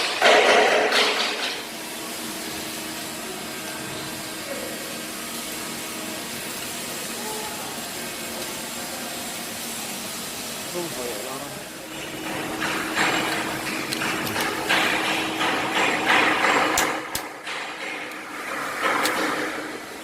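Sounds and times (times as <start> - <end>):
workshop hum: 0.0 - 20.0.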